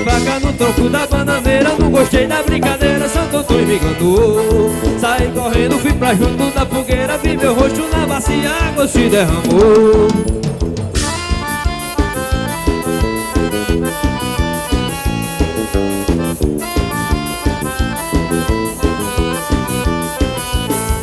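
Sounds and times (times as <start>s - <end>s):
accordion playing quick runs: 0.0s - 21.0s
steady percussion beat: 0.0s - 21.0s.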